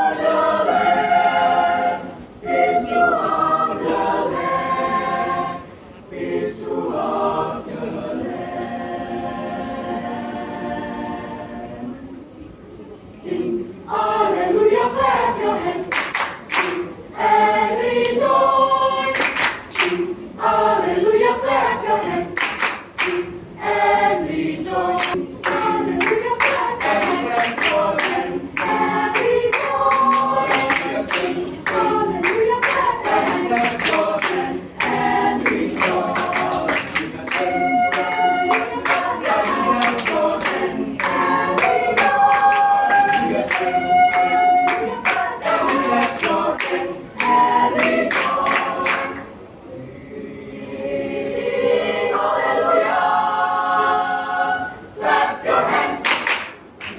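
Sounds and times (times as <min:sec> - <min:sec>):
children's choir singing: 0:00.0 - 0:56.9.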